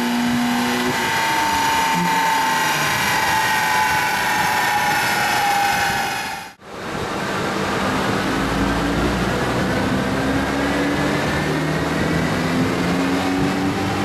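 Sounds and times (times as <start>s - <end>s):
car engine whining at high revs: 0.0s - 14.0s.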